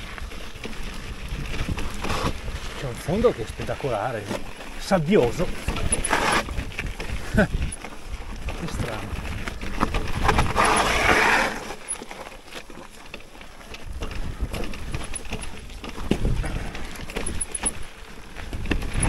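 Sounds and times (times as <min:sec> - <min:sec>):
bike knocking and rattling: 0:00.0 - 0:19.0
bike tyres on sandy trail: 0:00.0 - 0:19.0.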